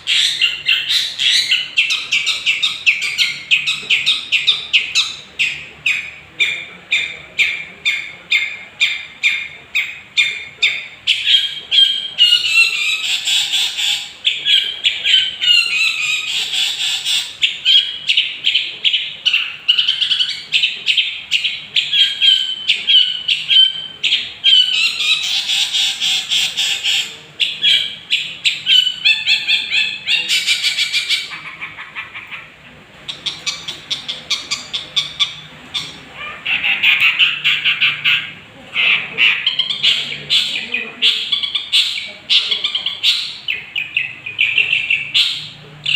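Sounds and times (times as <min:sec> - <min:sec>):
shrike singing: 0:00.0 - 0:45.9.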